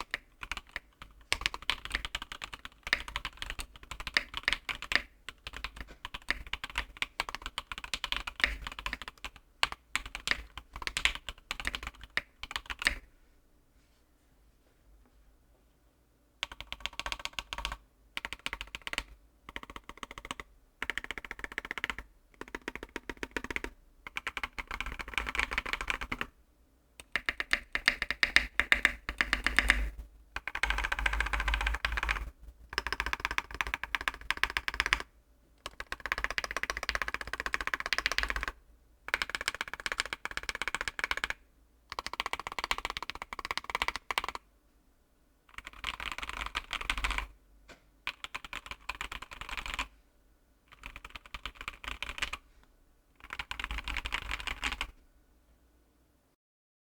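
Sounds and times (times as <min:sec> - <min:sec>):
mechanical keyboard typing: 0:00.0 - 0:13.0, 0:16.4 - 0:26.3, 0:27.0 - 0:44.4, 0:45.5 - 0:47.3, 0:48.1 - 0:49.9, 0:50.7 - 0:52.4, 0:53.2 - 0:55.0.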